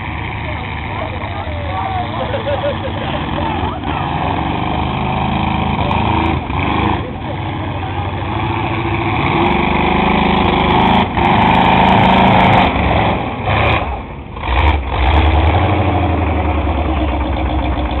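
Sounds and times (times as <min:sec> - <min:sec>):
truck engine revving in mud: 0:00.0 - 0:18.0.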